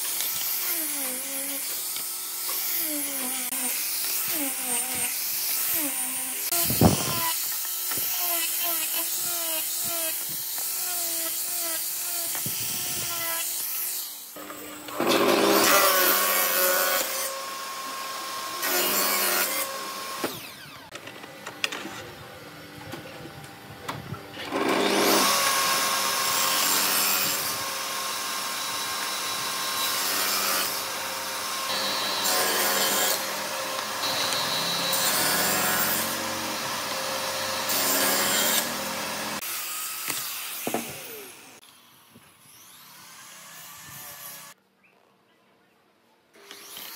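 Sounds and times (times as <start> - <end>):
orbital sander on wood: 0.0 - 20.9, 24.5 - 44.6
table saw cutting wood: 0.0 - 21.0, 24.4 - 44.6, 46.4 - 46.9.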